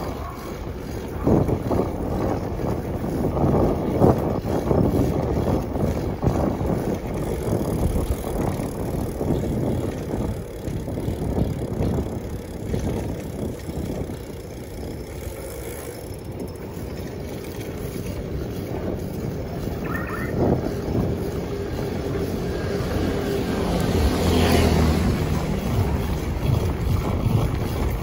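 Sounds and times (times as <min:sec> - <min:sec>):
bike tyres on road: 0:00.0 - 0:28.0
wind noise on microphone: 0:00.0 - 0:28.0.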